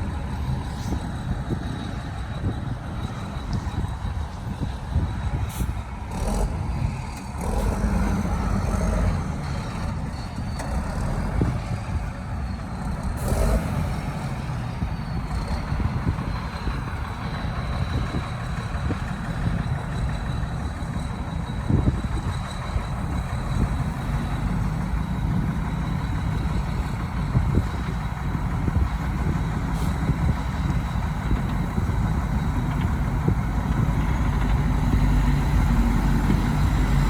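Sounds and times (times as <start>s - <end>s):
heavy diesel machinery rumbling: 0.0s - 37.0s.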